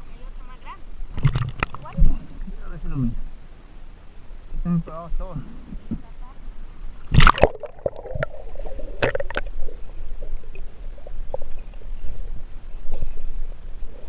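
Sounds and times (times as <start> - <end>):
muffled underwater water rumble: 0.9 - 14.0.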